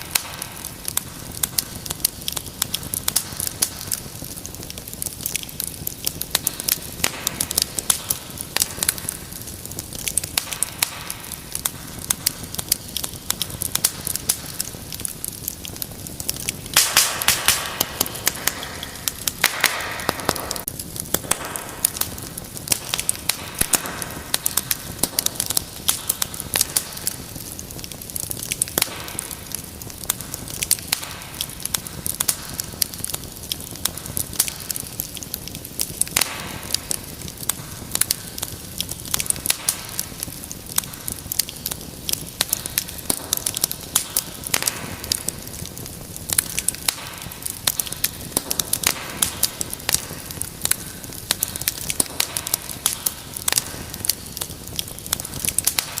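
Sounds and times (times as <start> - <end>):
low rush of flame: 0.0 - 56.0
wood fire crackling: 0.0 - 56.0.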